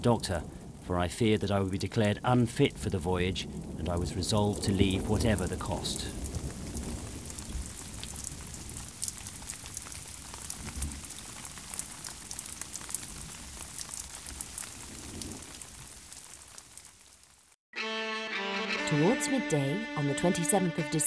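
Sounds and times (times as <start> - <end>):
rain falling with crackling ticks: 0.0 - 17.6.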